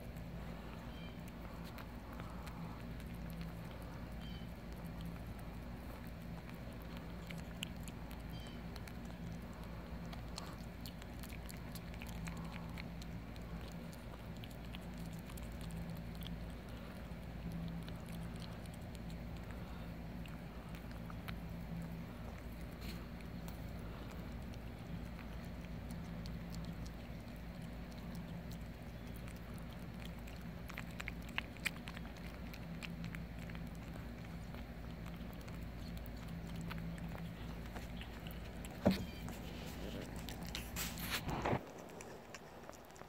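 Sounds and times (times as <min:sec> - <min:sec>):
kittens licking and chewing meat: 0:00.0 - 0:43.0.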